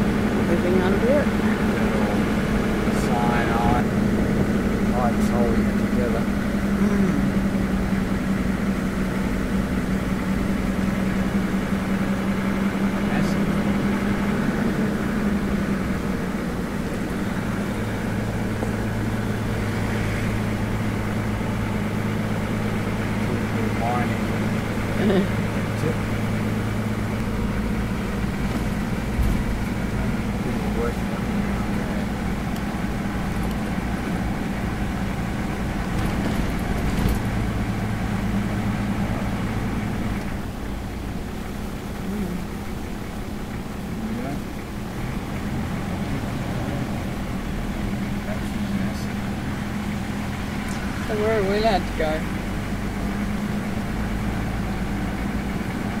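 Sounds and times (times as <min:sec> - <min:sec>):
car interior engine and road hum: 0:00.0 - 0:56.0.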